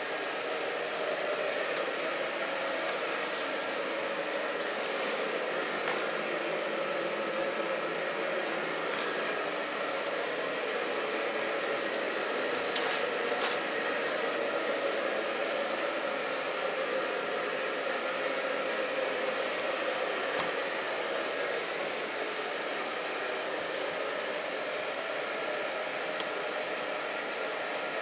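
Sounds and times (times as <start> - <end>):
electric blower fan running: 0.0 - 28.0.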